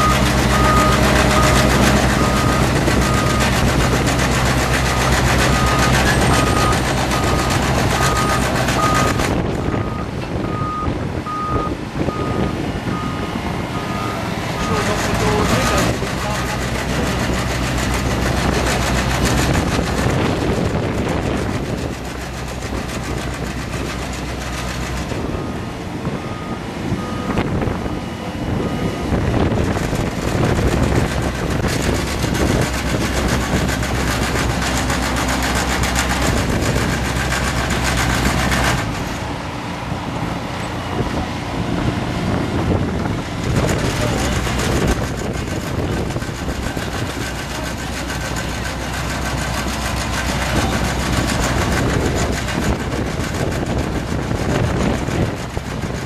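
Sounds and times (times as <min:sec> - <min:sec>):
diesel roller engine running: 0:00.0 - 0:56.0.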